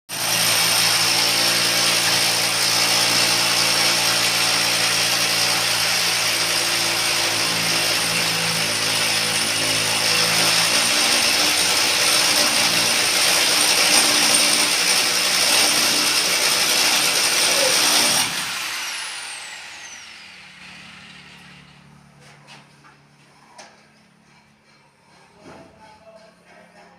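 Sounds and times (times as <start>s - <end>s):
electric drill boring into concrete: 0.1s - 21.8s
drill motor winding down: 0.2s - 21.8s.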